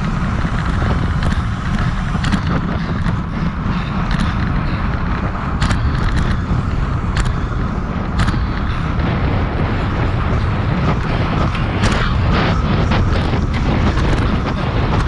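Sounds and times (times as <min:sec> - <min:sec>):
bicycle tyre and road noise: 0:00.0 - 0:15.0
sharp ticks from bicycle: 0:00.0 - 0:15.0
wind rushing over microphone: 0:00.0 - 0:15.0.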